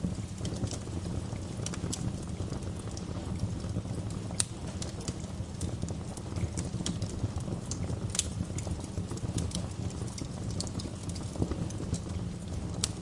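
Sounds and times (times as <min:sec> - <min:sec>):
fire popping and snapping: 0:00.0 - 0:13.0
fireplace fire rumbling: 0:00.0 - 0:13.0.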